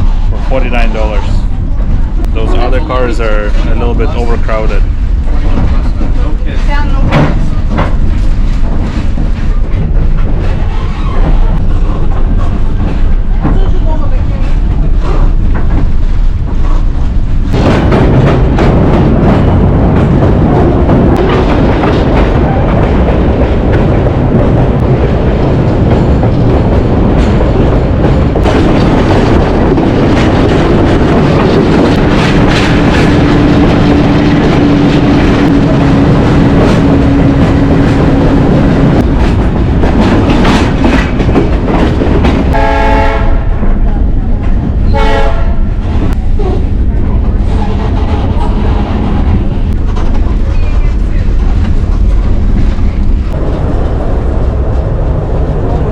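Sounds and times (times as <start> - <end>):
train wheels clattering on rails: 3.3 - 55.9.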